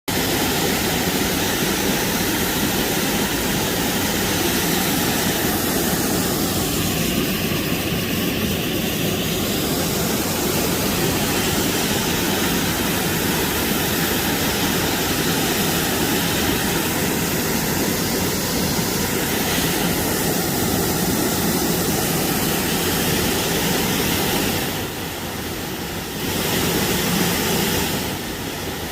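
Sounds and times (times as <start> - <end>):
waterfall rushing: 0.1 - 28.9.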